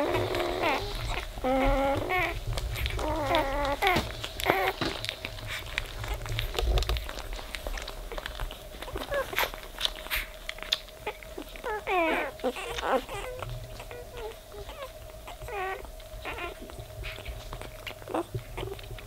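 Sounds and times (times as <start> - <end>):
puppies squeaking and whining: 0.0 - 19.0.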